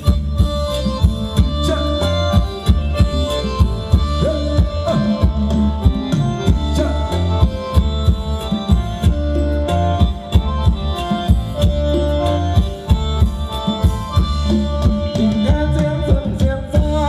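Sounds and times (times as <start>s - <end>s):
band playing dance music: 0.0s - 17.0s
steady drum beat: 0.0s - 17.0s.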